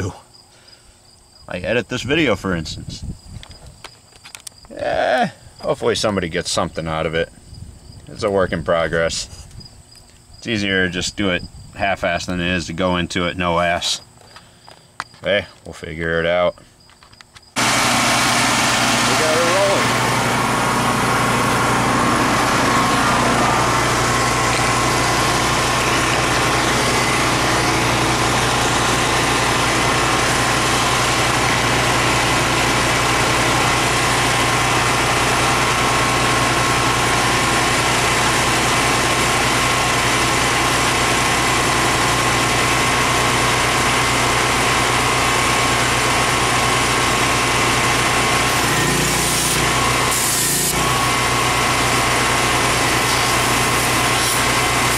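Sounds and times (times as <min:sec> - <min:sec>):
generator engine humming: 0:10.4 - 0:54.9.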